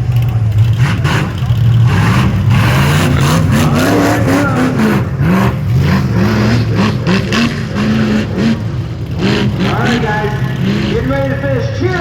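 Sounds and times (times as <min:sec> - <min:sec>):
truck engine revving in bursts: 0:00.0 - 0:11.6.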